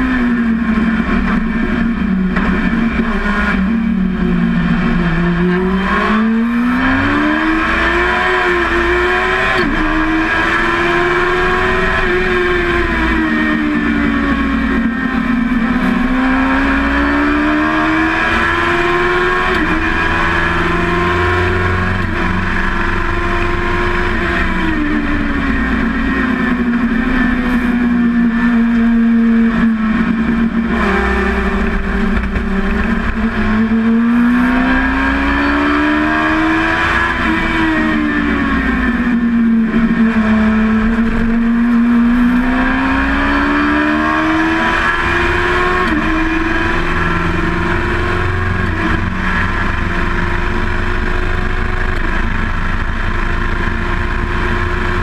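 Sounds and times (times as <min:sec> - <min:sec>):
race car engine revving: 0:00.0 - 0:55.0
wind and road rush: 0:00.0 - 0:55.0.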